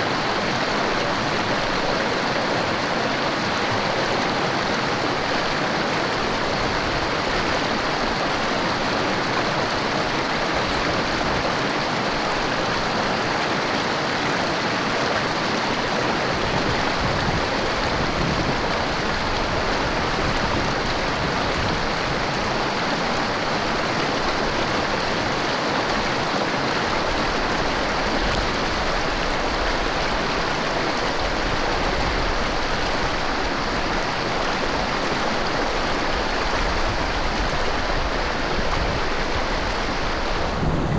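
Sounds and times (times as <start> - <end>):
river rushing over rocks: 0.0 - 40.9.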